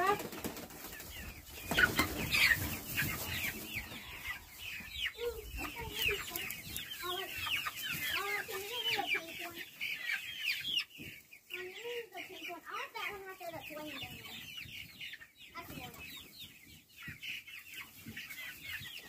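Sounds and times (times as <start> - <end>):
chickens warbling calls: 0.0 - 19.0
chicks cheeping: 0.0 - 19.0.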